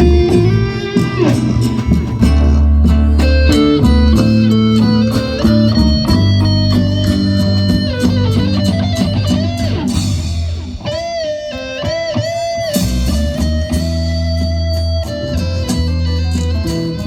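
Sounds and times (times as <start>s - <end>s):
held bass notes: 0.0s - 17.0s
plucked guitar melody: 0.0s - 17.0s.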